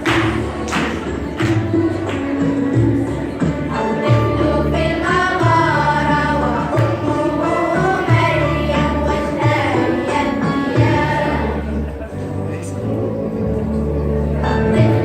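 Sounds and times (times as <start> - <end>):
children singing together: 0.0 - 15.0
instrumental accompaniment with low beat: 0.0 - 15.0.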